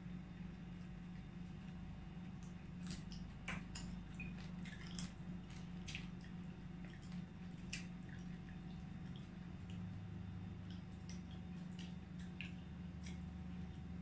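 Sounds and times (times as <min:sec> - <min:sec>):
chewing: 0:00.0 - 0:14.0
low hum: 0:00.0 - 0:14.0
wet squishing of food: 0:00.0 - 0:14.0.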